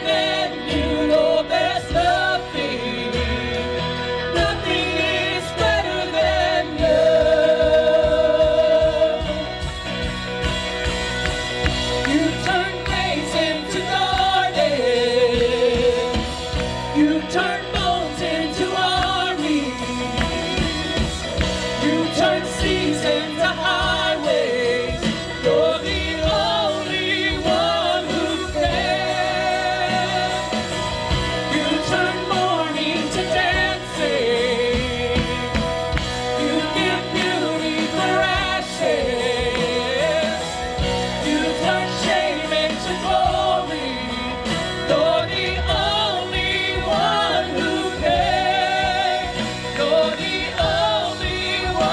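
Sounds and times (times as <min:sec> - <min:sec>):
group singing worship song: 0:00.0 - 0:51.9
instrumental accompaniment: 0:00.0 - 0:51.9.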